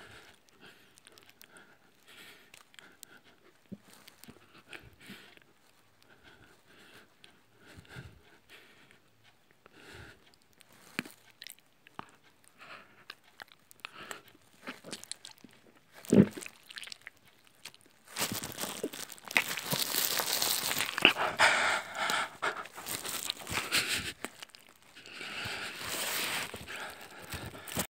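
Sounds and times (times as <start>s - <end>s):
wet chewing and mouth-smacking: 0.0s - 27.9s.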